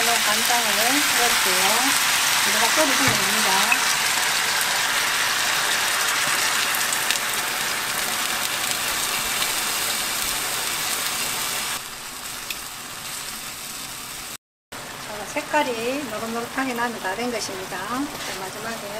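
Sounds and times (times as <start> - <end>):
sauce sizzling in frying pan: 0.0 - 18.9.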